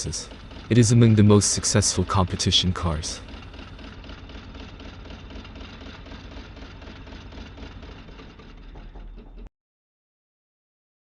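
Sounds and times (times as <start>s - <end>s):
machine chattering: 0.0s - 9.5s.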